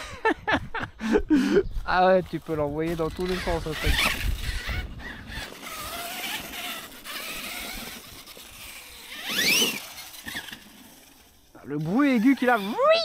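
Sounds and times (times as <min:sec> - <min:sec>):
electric motor high-pitched whine: 0:02.3 - 0:13.0.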